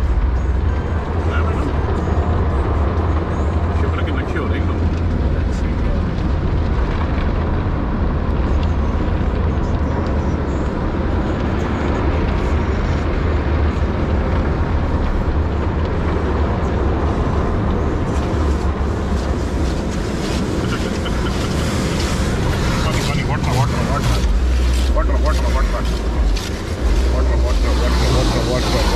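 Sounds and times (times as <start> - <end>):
car wash rumbling rush: 0.0 - 28.9.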